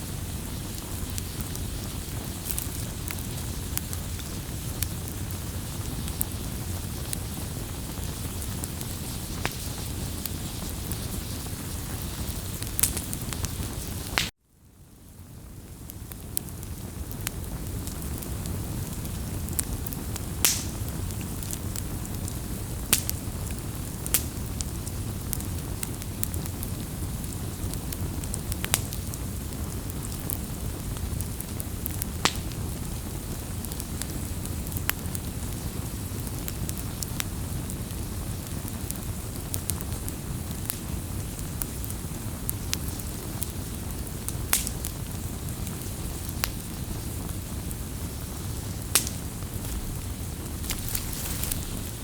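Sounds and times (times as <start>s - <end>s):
flame rushing: 0.0s - 14.3s, 16.0s - 52.0s
fire crackling and popping: 0.0s - 14.4s, 15.0s - 52.0s.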